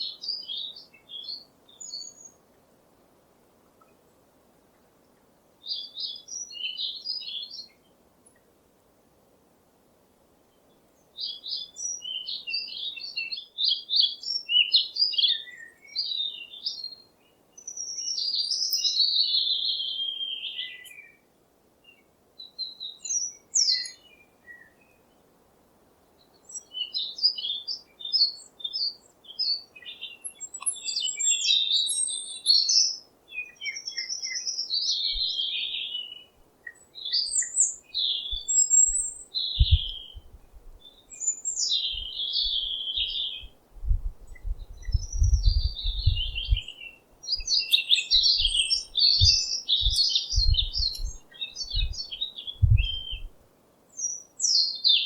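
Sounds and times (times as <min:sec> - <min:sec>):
songbird singing: 0:00.0 - 0:03.1, 0:03.7 - 0:08.5, 0:10.4 - 0:55.0.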